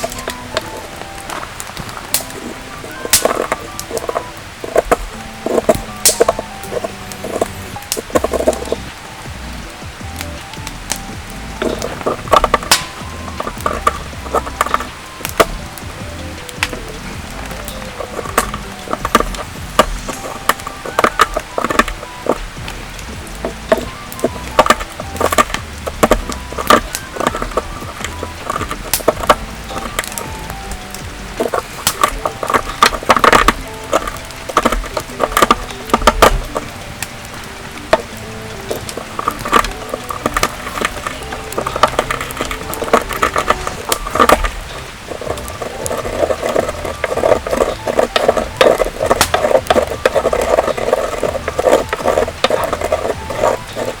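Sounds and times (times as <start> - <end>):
salt and peppercorns crushed: 0.0 - 54.0.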